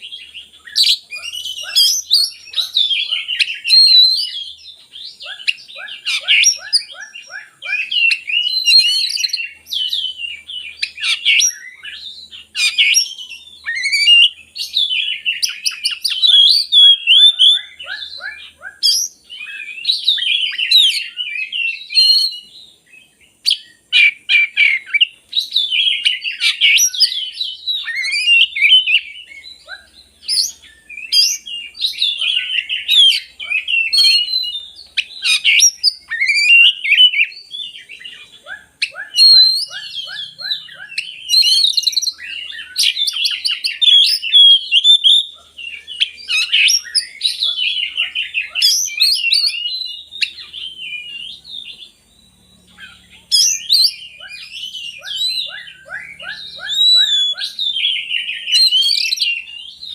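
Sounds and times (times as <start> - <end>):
bird singing whistled song: 0.0 - 59.9.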